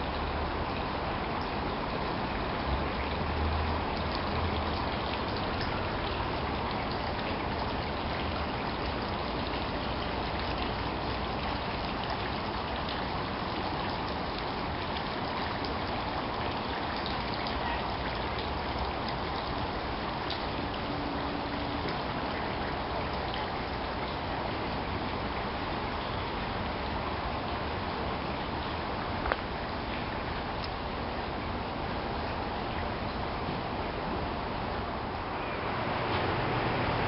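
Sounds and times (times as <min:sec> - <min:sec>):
fountain water splashing: 0:00.0 - 0:37.0.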